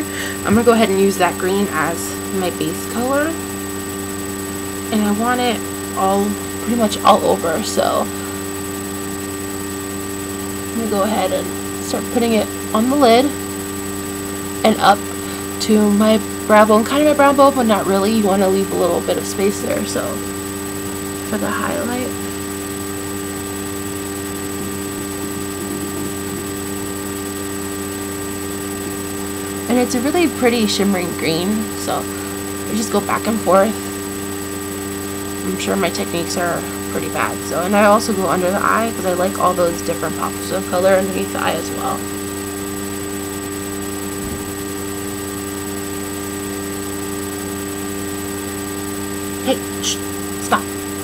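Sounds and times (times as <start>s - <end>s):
constant tones: 0.0s - 48.2s
background hum and hiss: 0.0s - 51.0s.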